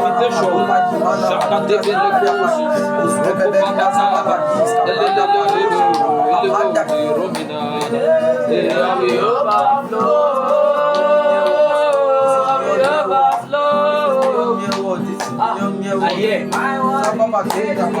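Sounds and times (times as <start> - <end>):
guitar accompaniment: 0.0 - 18.0.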